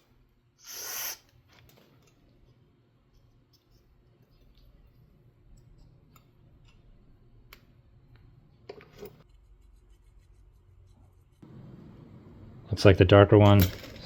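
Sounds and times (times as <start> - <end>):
low steady hum: 1.7 - 14.0.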